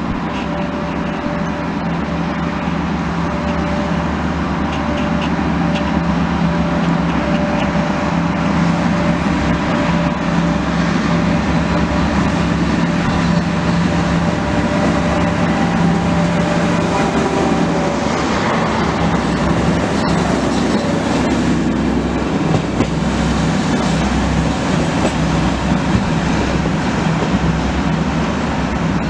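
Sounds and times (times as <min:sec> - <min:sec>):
diesel train engine rumbling: 0:00.0 - 0:29.0.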